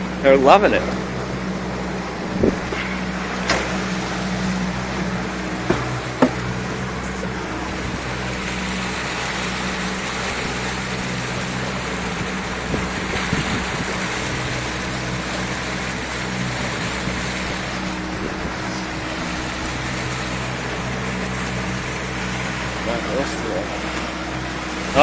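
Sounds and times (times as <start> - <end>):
motorboat engine humming: 0.0 - 25.0
water rushing along hull: 0.0 - 25.0.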